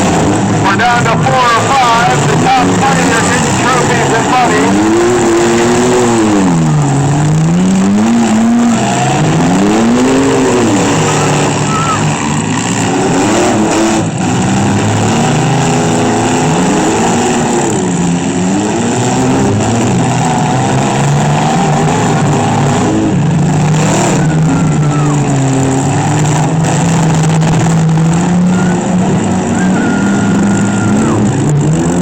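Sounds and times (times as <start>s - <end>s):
engines revving: 0.0s - 32.0s.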